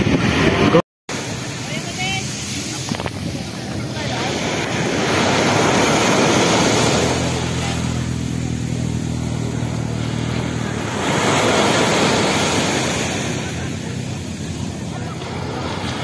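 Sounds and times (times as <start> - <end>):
low engine hum: 0.0 - 16.0
small waves breaking on sand: 0.0 - 16.0.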